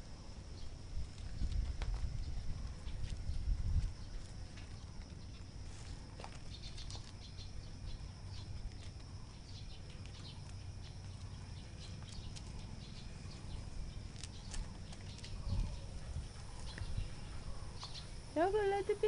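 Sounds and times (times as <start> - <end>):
paws scrabbling on gravel: 1.0 - 7.5, 8.4 - 17.9.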